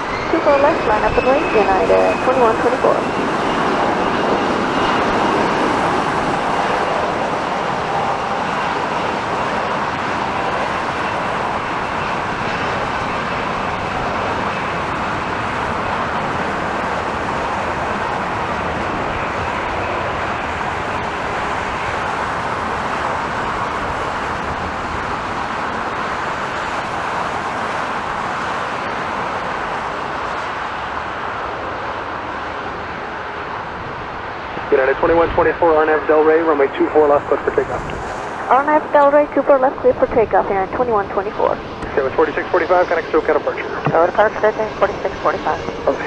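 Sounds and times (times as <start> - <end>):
faint engine whine: 0.0 - 46.0
jet engines roaring: 0.0 - 46.0.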